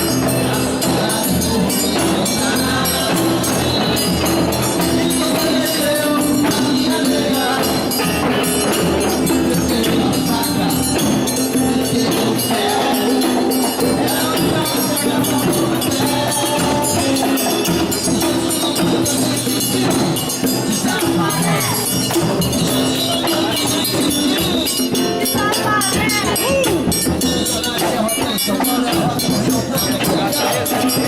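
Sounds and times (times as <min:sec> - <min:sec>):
jangling hand percussion: 0:00.0 - 0:31.0.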